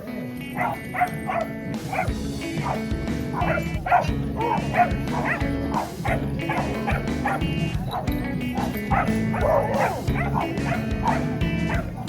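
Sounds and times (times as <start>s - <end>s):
background music: 0.0s - 12.0s
dog barking: 0.0s - 12.0s.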